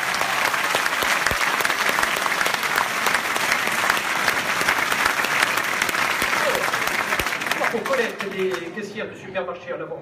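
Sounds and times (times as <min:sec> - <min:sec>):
large audience applauding: 0:00.0 - 0:08.8.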